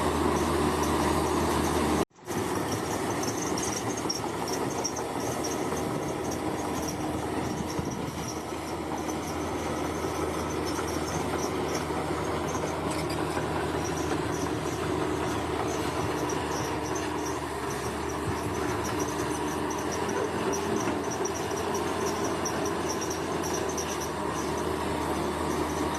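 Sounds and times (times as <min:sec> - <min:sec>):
bulldozer diesel engine running: 0:00.0 - 0:25.9
insects chirping: 0:03.1 - 0:24.7.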